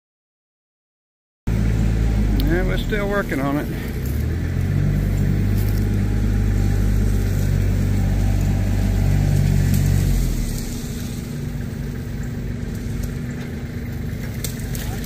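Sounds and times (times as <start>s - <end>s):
truck engine running: 1.5s - 15.0s.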